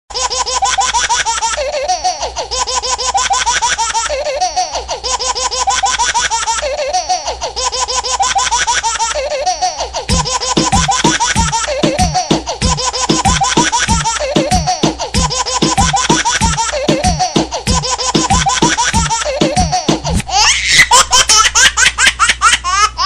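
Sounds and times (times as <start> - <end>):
baby laughing ringtone: 0.2 - 23.0.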